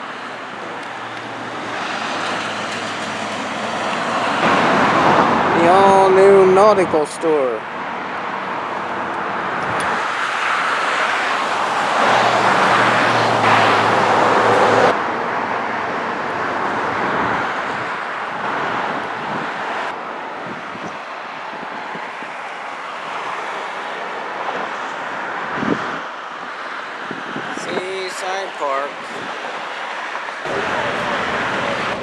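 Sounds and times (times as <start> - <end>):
road traffic rushing hiss: 0.0 - 15.2, 16.3 - 32.0.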